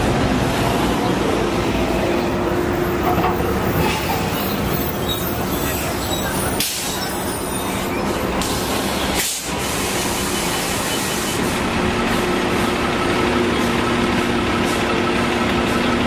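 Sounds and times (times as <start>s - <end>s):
bus pulling in: 0.0s - 16.0s
buses idling: 0.0s - 16.0s
street traffic: 0.0s - 16.0s.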